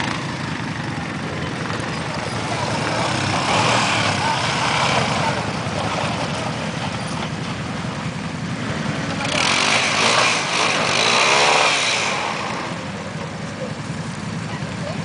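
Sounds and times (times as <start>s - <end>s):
atv engine revving: 0.0s - 15.0s
wheels splashing through mud: 0.0s - 15.0s.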